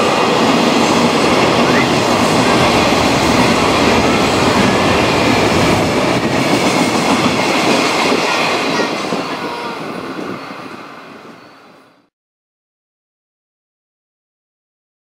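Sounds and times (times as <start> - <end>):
freight train passing: 0.0 - 12.1.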